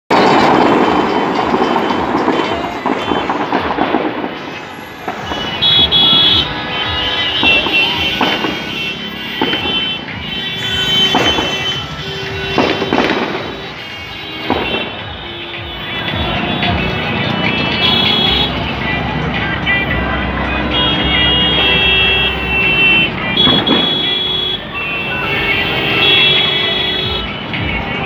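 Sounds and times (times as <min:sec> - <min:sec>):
vehicle horns honking: 0:00.1 - 0:27.6
many voices: 0:00.1 - 0:28.0
traffic noise: 0:00.1 - 0:28.0
music: 0:00.2 - 0:28.0.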